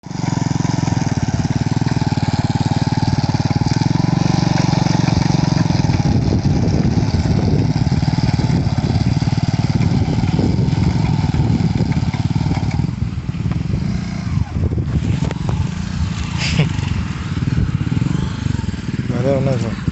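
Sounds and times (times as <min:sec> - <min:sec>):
small motorcycle engine running: 0:00.0 - 0:19.9.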